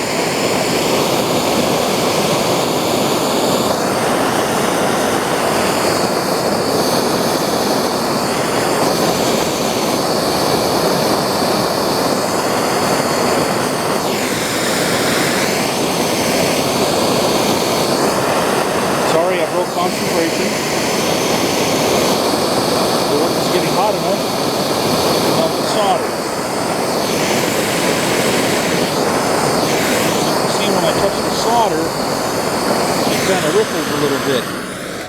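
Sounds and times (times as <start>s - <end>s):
gas torch rushing: 0.0s - 35.0s.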